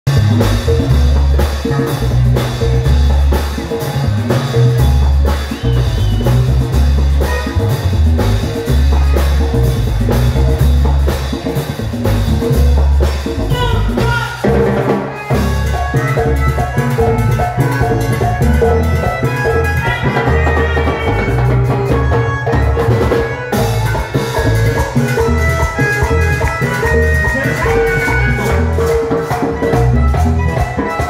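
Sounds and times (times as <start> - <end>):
bass guitar: 0.0 - 31.0
accordion melody: 0.1 - 31.0
drum and percussion beat: 0.1 - 31.0.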